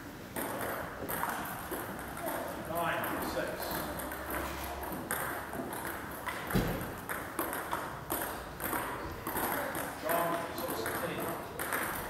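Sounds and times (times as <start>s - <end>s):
table tennis ball hits: 0.3s - 12.0s.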